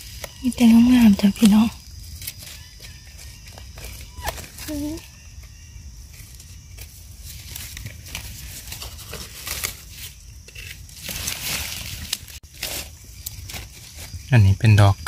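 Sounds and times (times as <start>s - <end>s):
dry leaf litter rustling: 0.0s - 14.2s.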